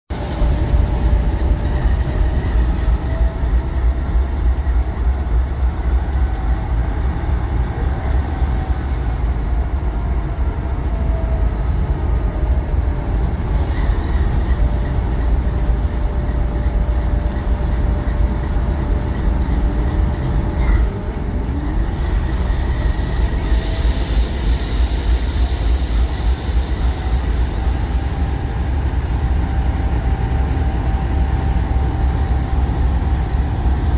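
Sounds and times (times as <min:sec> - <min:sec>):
train low rumble: 0:00.1 - 0:33.9.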